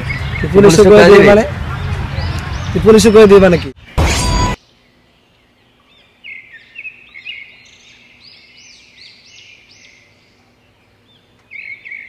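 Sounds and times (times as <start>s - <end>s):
birds chirping and singing: 0.0s - 4.0s, 4.6s - 12.0s.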